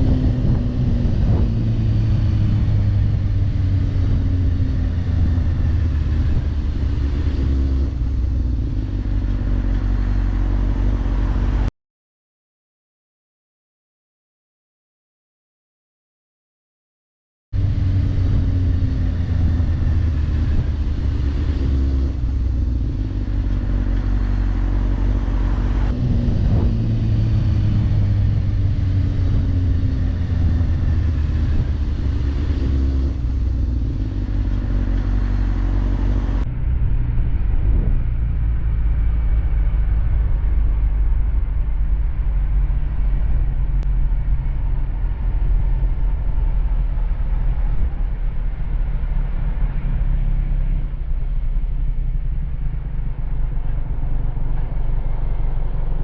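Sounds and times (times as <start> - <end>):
motorcycle engine at speed: 0.0 - 11.7, 17.6 - 56.0
wind rumble on microphone: 0.0 - 11.7, 17.6 - 56.0.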